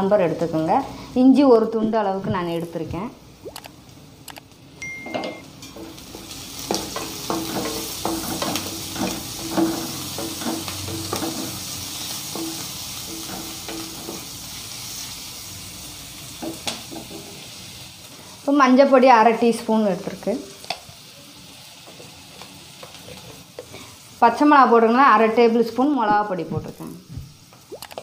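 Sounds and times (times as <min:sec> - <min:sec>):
food sizzling in hot oil: 0:02.4 - 0:28.0.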